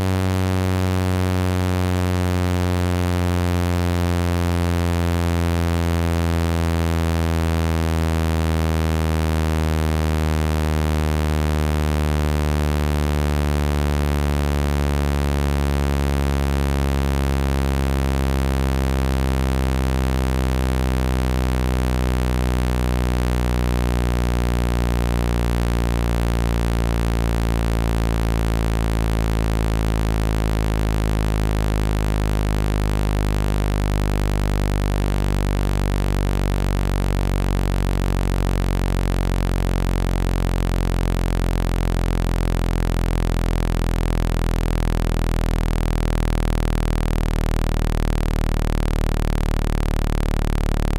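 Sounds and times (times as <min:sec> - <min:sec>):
low buzzing tone: 0:00.0 - 0:50.9.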